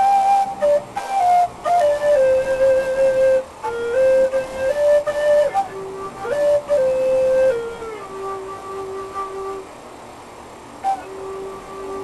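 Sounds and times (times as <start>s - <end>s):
slow solo melody: 0.0s - 12.0s.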